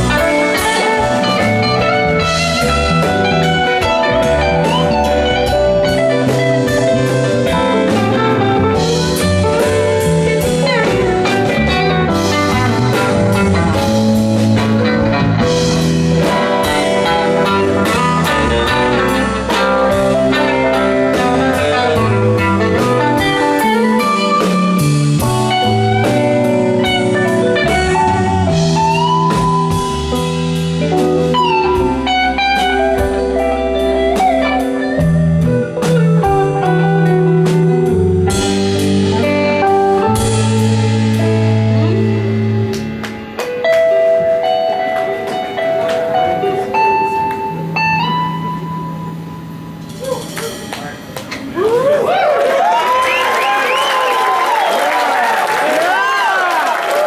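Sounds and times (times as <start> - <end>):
electric bass: 0.0 - 54.4
electric guitar lead line: 0.0 - 54.8
drum kit: 0.0 - 57.0.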